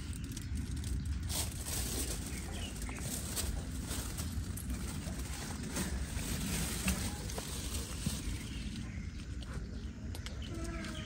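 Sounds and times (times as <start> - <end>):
leafy plants rustling: 0.0 - 11.0
wind rumbling on microphone: 0.0 - 11.0.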